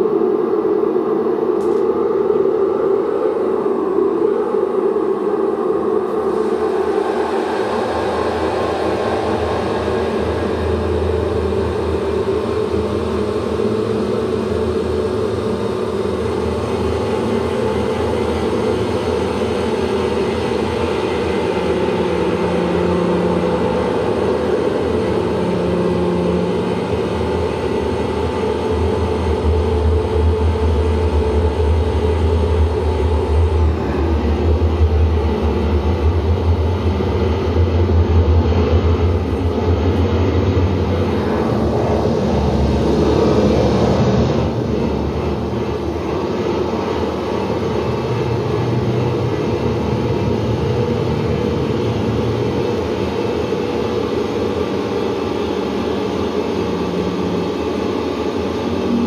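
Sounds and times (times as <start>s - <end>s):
drone of resonant tones: 0.0s - 59.0s
low rumbling noise: 5.8s - 59.0s.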